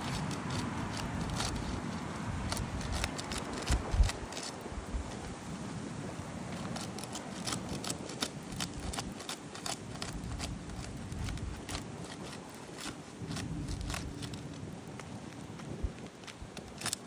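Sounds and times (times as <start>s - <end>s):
tool scraping shingles: 0.0s - 5.4s, 6.2s - 17.0s
shingle seals crackling and snapping: 0.0s - 17.0s.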